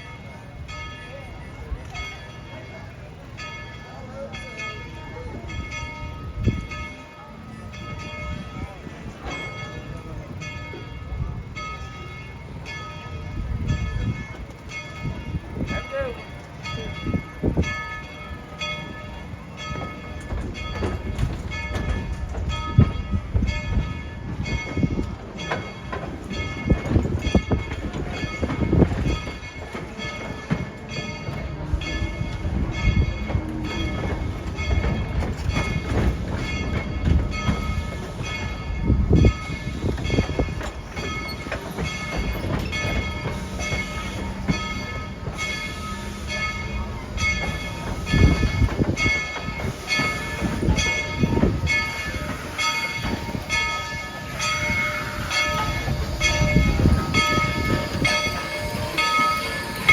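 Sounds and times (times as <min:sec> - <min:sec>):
low train rumble: 0:00.0 - 0:59.9
steam locomotive chugging: 0:00.0 - 0:59.9.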